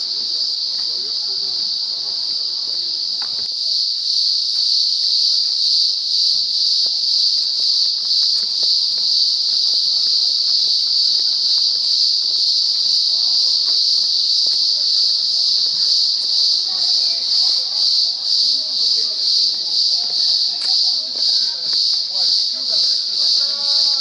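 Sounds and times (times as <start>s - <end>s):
chorus of insects: 0.0s - 24.0s.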